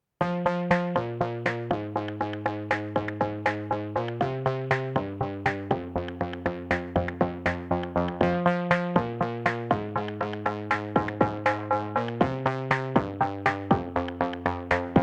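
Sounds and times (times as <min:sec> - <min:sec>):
plucked synthesizer notes: 0:00.2 - 0:15.0
held bass notes: 0:00.3 - 0:15.0.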